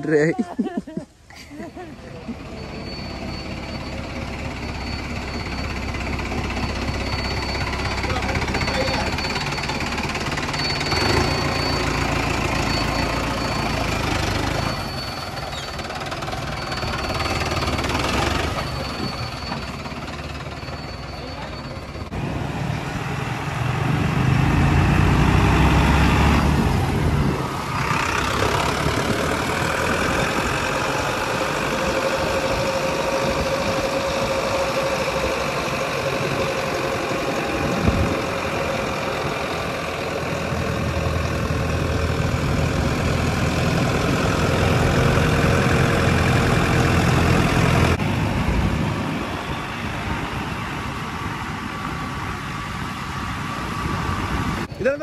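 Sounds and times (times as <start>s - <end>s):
diesel tractor engine clattering: 1.6s - 22.3s, 24.6s - 49.4s.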